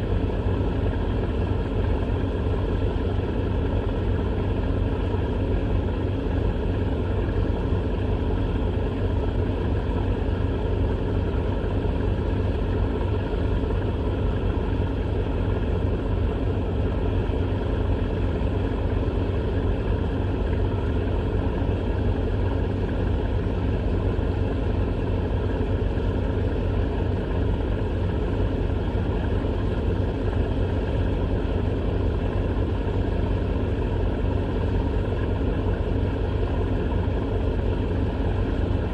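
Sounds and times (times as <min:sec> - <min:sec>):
low engine-like drone: 0:00.0 - 0:38.9.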